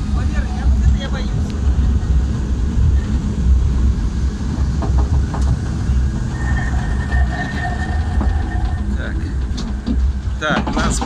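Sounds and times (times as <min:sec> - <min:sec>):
thin steady whine: 0:00.0 - 0:10.4.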